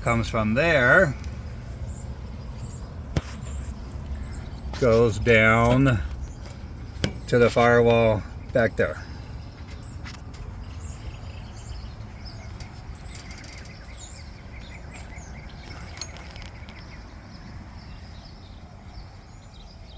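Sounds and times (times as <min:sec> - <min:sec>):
steady low rumble: 0:00.0 - 0:18.3
faint bird chirps: 0:00.0 - 0:19.9.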